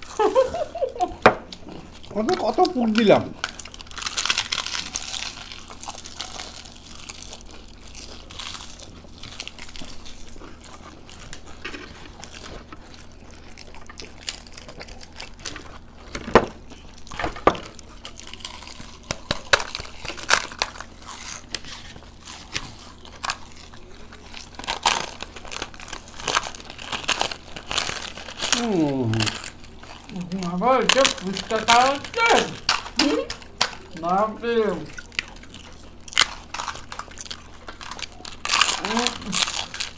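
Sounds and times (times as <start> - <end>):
chewing: 0.0 - 39.9
crisp shells crunching: 0.0 - 39.9.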